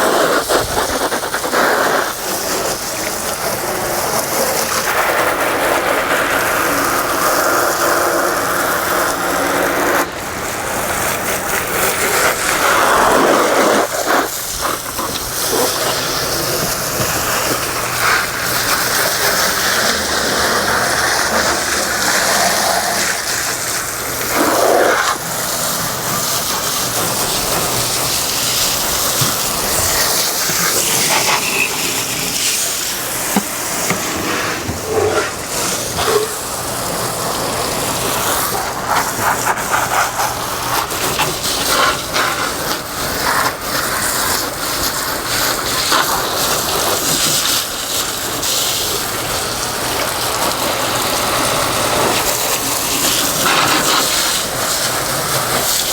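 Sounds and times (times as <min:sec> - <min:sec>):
water spraying from hose: 0:00.0 - 0:55.9.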